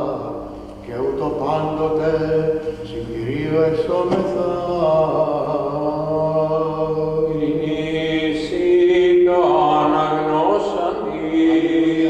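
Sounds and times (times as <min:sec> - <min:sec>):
low vocal drone: 0:00.0 - 0:12.0
man chanting long notes: 0:00.0 - 0:12.0.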